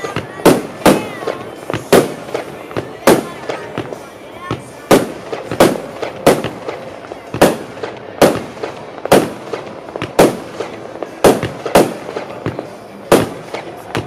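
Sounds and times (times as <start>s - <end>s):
fireworks bangs with echo: 0.0s - 14.0s
light firework cracks: 0.0s - 14.0s.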